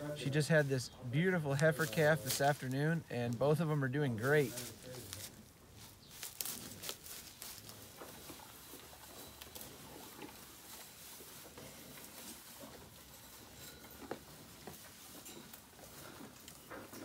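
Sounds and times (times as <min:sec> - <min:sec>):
hay and bedding rustling: 0:00.1 - 0:17.0
cows munching hay: 0:01.5 - 0:17.0.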